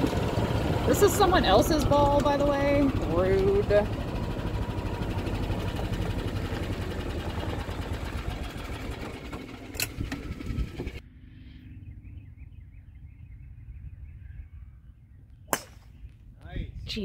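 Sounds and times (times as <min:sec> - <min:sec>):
golf cart engine rumbling: 0:00.0 - 0:16.5.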